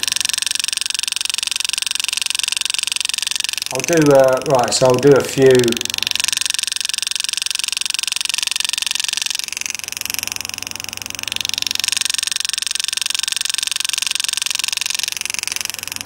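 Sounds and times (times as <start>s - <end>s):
air graver buzzing chatter: 0.0s - 16.0s.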